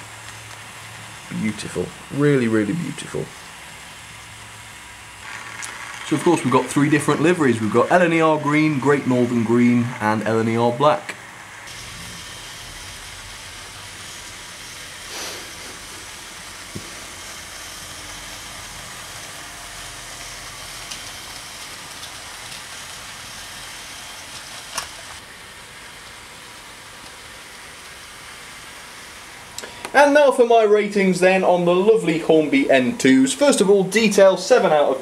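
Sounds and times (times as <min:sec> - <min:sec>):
model train wheels rumbling: 0:04.8 - 0:35.0.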